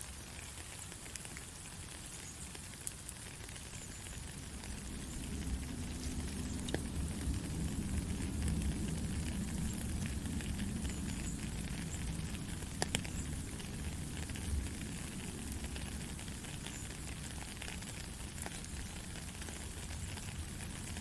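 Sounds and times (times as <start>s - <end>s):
heavy rain: 2.8s - 21.0s.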